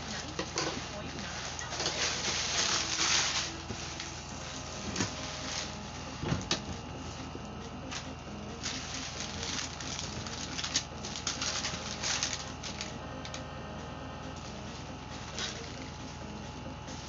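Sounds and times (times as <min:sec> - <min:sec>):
packaging rustling: 0:00.0 - 0:13.5, 0:14.3 - 0:17.0.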